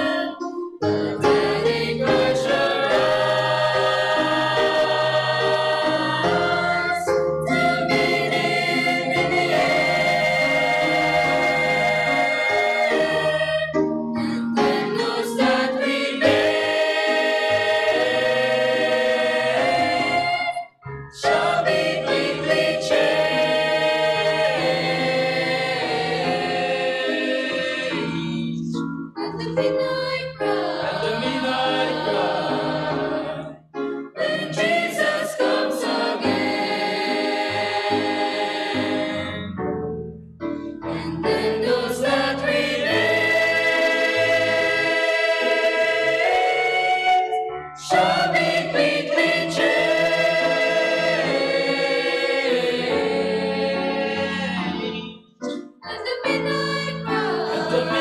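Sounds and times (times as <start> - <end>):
choir singing in harmony: 0.0 - 39.8, 40.5 - 58.0.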